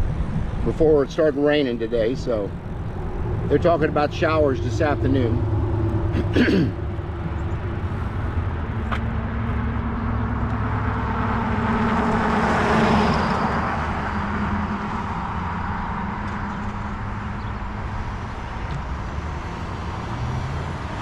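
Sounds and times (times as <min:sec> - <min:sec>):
low rumble of e-bike riding: 0:00.0 - 0:21.0
road vehicle passing: 0:00.0 - 0:21.0.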